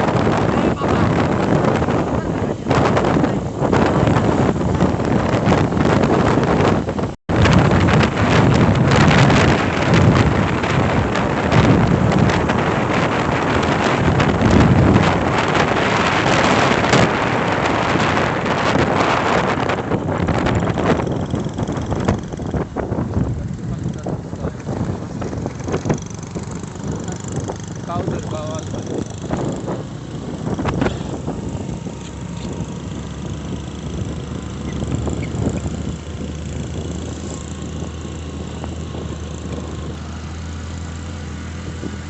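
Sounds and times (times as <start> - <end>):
road vehicle driving: 0.0 - 42.0
wind buffeting microphone: 0.0 - 42.0.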